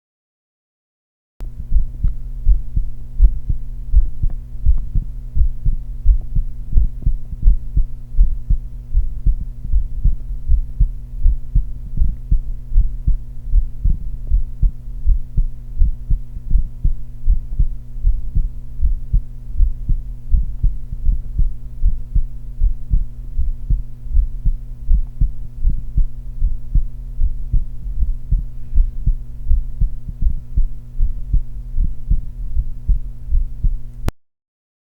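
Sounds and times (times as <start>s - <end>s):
heartbeat lub-dub thumps: 1.4s - 33.9s
low hum: 1.4s - 34.1s.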